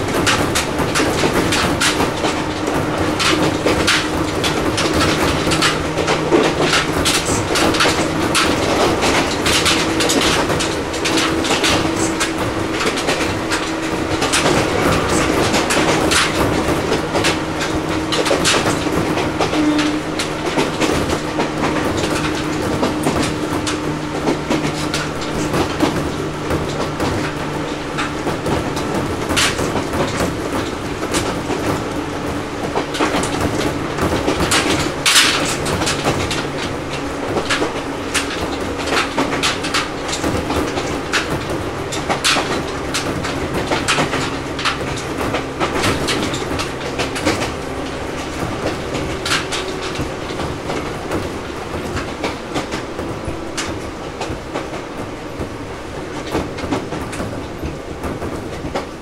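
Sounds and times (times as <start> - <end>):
train running hum: 0.0 - 59.0
wheels clacking over rail joints: 0.0 - 59.0.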